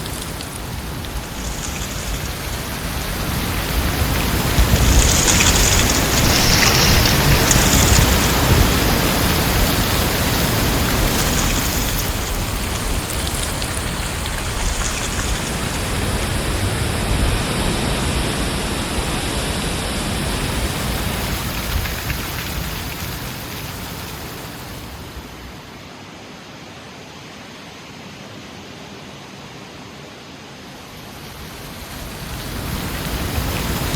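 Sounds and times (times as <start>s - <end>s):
heavy wind storm rushing: 0.0s - 25.7s, 31.1s - 33.9s.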